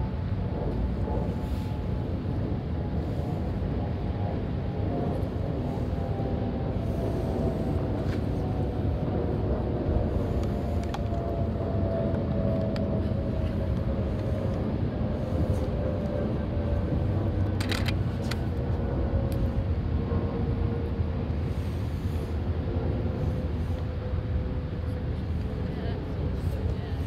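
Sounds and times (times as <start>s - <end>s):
distant jet airliner rumble: 0.0s - 27.0s
faint jet engine tones: 0.0s - 27.0s.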